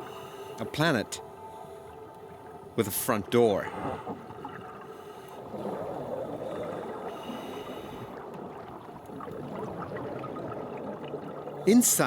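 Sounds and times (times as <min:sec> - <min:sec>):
faint underwater gurgling: 0:00.0 - 0:12.0
muffled underwater water noise: 0:00.0 - 0:12.0.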